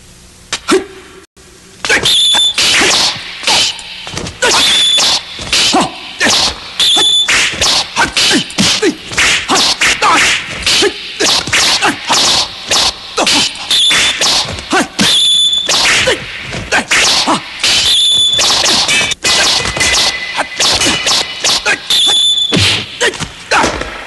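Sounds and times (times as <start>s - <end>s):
metallic sword clashes: 1.8s - 16.2s, 16.9s - 21.9s
punching whacks: 1.8s - 21.8s, 22.5s - 24.0s.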